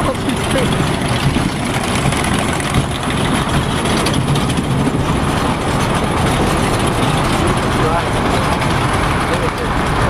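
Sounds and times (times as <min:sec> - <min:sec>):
roller coaster chain lift rattling: 0:00.0 - 0:10.0.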